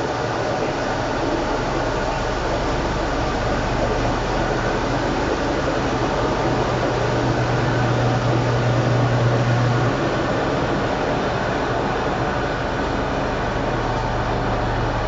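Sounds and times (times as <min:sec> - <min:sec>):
low motor hum: 0:00.0 - 0:15.0
washing machine wash noise: 0:00.0 - 0:15.0.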